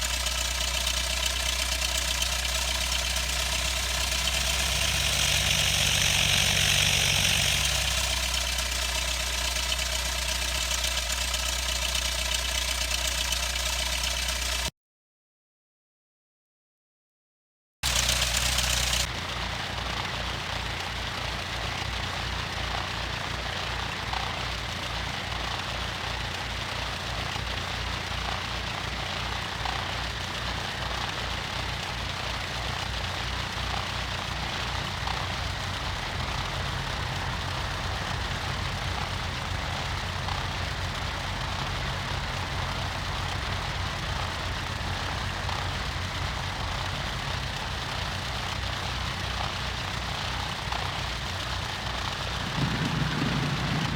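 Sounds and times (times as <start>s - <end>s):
propeller plane engine running: 0.0s - 14.7s, 17.8s - 53.9s.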